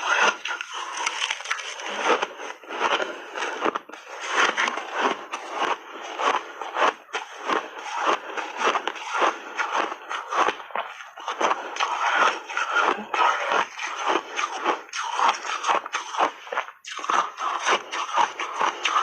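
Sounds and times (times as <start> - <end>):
ice crunching being chewed: 0.0 - 19.0.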